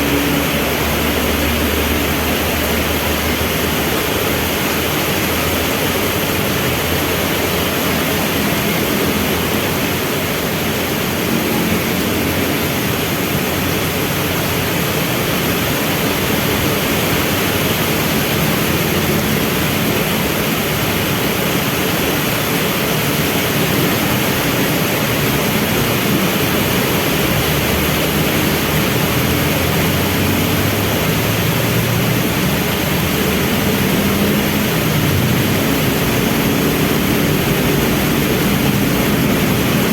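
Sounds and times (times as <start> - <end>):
heavy rain falling: 0.0 - 39.9
vehicle engines in traffic: 0.0 - 39.9.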